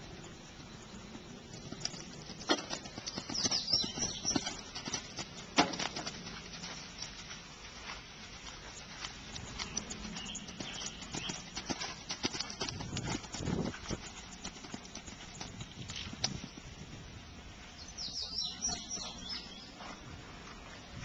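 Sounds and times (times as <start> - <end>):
horse hoofbeats on sand: 1.4 - 21.0.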